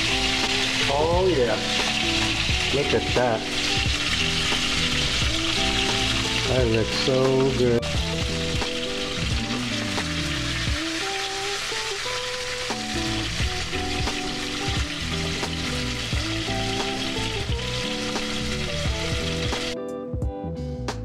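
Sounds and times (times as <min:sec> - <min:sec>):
fish sizzling in a pan: 0:00.0 - 0:19.8
background music: 0:00.0 - 0:21.0.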